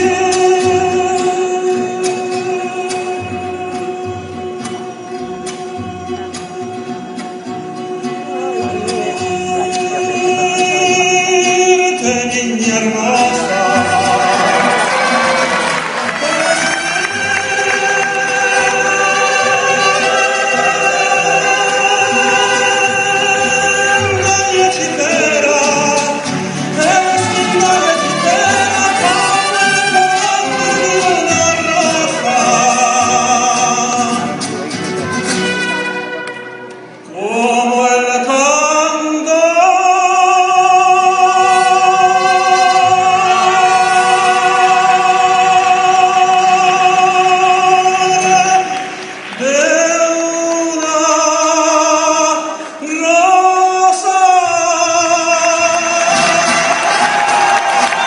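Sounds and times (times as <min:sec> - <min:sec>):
man singing: 0:00.0 - 0:36.2, 0:37.0 - 0:58.0
mariachi band playing: 0:00.0 - 0:58.0.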